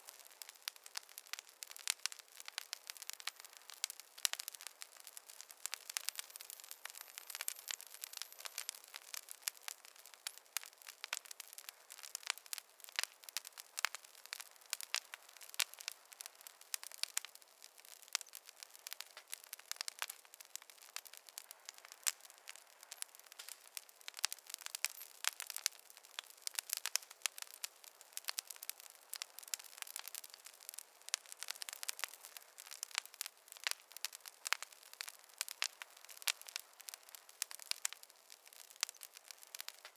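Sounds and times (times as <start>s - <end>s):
campfire crackling: 0.0s - 39.9s
soft hiss of fire: 0.0s - 39.9s.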